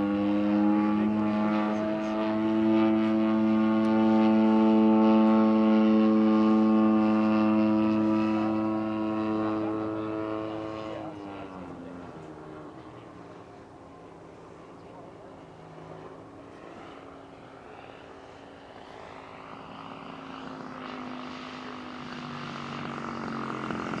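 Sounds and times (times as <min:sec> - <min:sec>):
model plane engine droning: 0:00.0 - 0:24.0.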